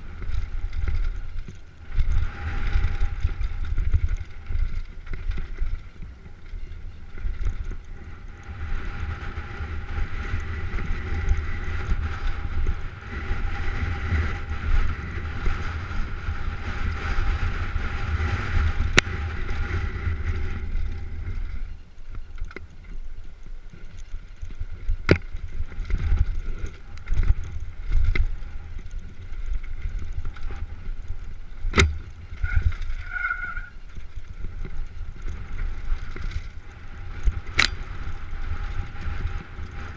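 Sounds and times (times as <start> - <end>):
bike rattling over trail: 0.0 - 39.9
wind buffeting microphone: 0.0 - 39.9.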